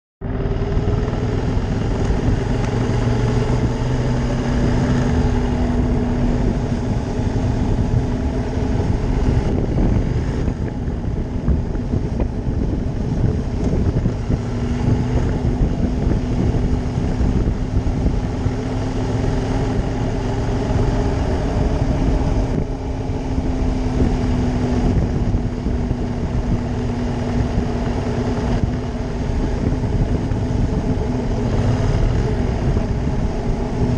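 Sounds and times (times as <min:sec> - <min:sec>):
motorcycle engine running: 0:00.2 - 0:33.9
wind rush on microphone: 0:00.2 - 0:33.9.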